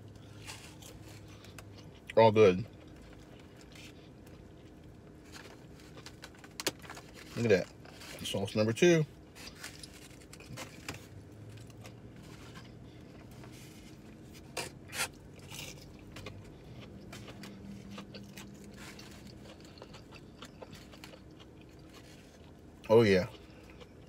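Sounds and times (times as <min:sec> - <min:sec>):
faint low hum: 0:00.0 - 0:24.0
man chewing crispy food: 0:00.0 - 0:24.0.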